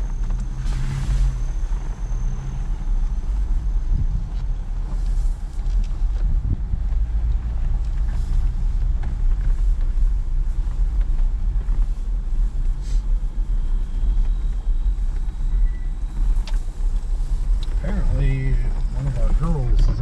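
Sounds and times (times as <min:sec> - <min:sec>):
off-road vehicle engine rumbling: 0:00.0 - 0:20.0.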